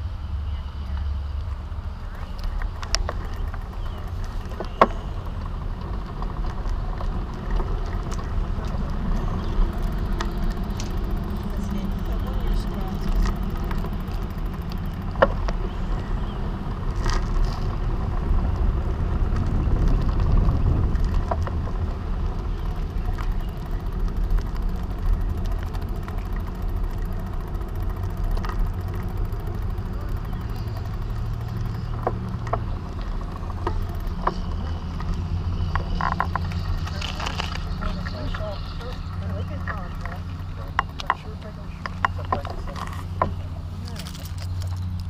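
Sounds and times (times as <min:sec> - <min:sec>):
bicycle tyres rolling on asphalt: 0:00.0 - 0:45.0
wind buffeting microphone: 0:00.0 - 0:45.0.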